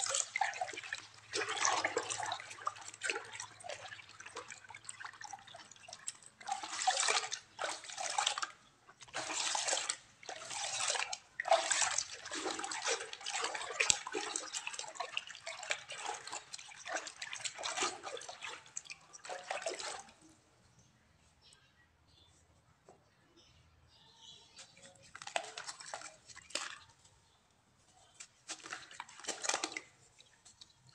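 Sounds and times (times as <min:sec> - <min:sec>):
hands squelching clay in water: 0:00.0 - 0:20.4, 0:24.6 - 0:27.4, 0:28.0 - 0:30.9.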